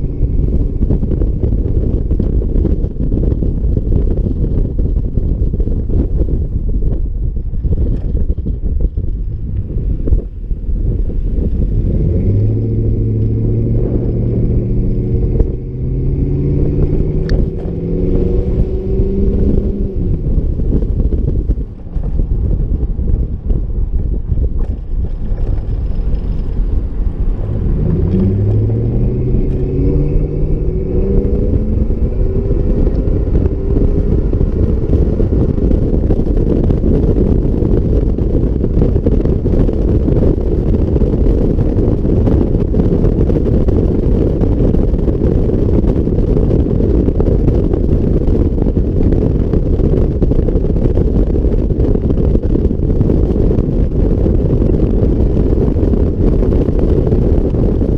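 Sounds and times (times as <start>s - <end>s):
engine exhaust accelerating: 0.0s - 57.9s
road noise: 0.0s - 57.9s.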